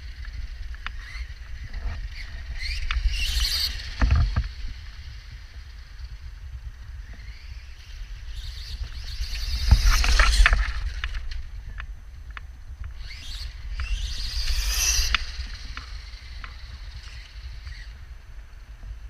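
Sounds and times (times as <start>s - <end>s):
rc truck motor passing: 0.0s - 19.0s
wind rumble on microphone: 0.0s - 19.0s.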